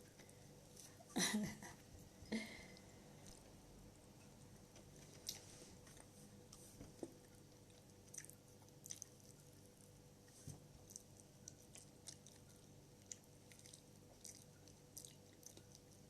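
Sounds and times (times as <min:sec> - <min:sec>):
faint steady hum: 0:00.0 - 0:16.0
faint chewing: 0:02.6 - 0:03.6, 0:04.2 - 0:16.0.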